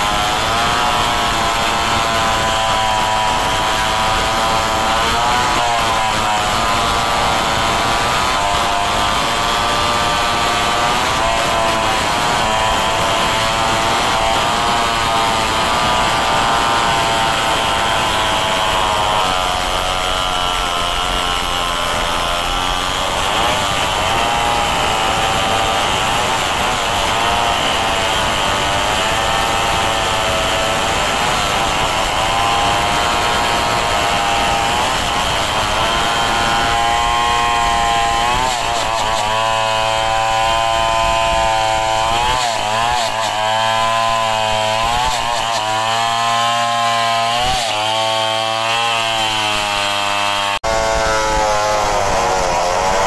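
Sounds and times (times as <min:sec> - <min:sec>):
chainsaws cutting log: 0:00.0 - 0:53.0.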